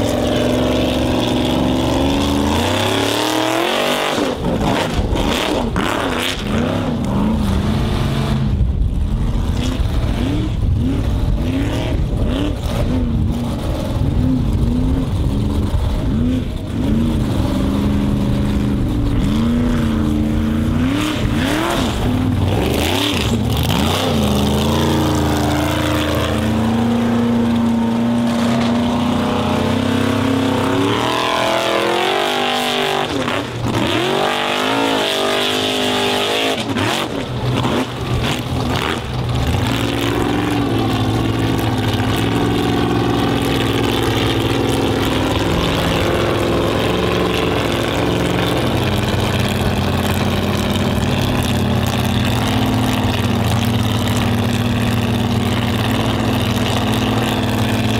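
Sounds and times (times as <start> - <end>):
racing engine revving: 0.0 - 57.9.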